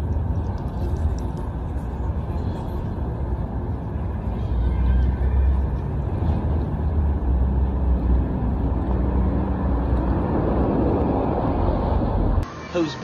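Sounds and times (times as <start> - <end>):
loud outdoor rumble: 0.0 - 13.0.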